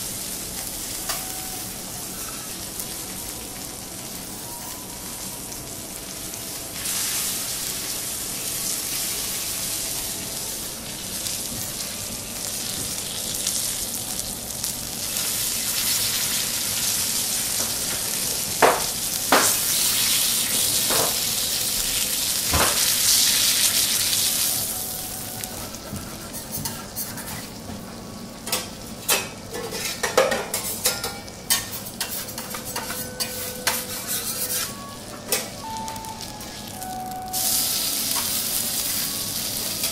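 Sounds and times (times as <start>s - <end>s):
steak sizzling on a griddle: 0.0s - 28.8s, 35.6s - 39.9s.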